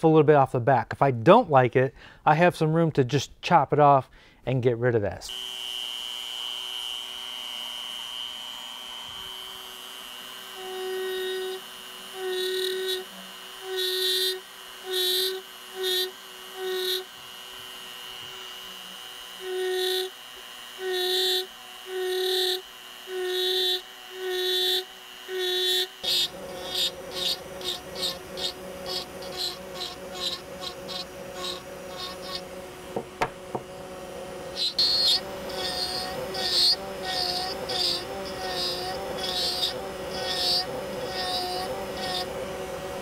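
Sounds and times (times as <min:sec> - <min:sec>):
rotary tool whining: 0:05.3 - 0:43.0.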